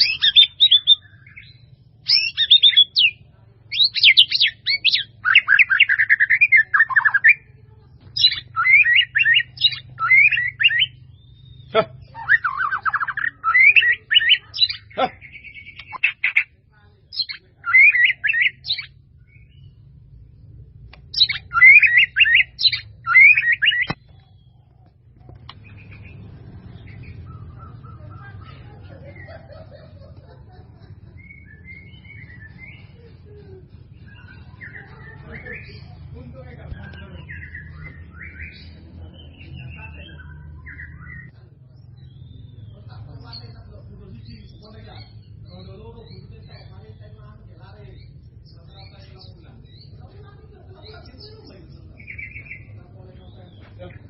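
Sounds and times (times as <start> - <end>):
bird chirping: 0.0 - 54.0
steady low hum: 0.0 - 54.0.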